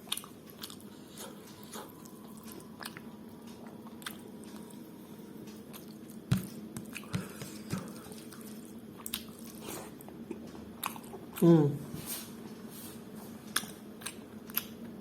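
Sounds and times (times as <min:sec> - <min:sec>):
person chewing food: 0:00.0 - 0:11.4, 0:13.5 - 0:15.0.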